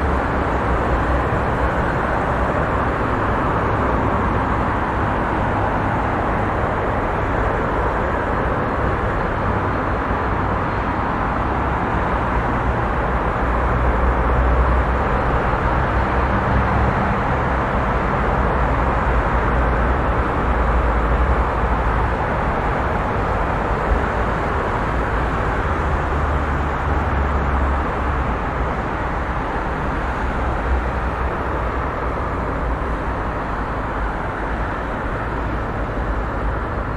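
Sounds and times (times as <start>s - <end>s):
passing cars and tyre noise: 0.0s - 36.9s.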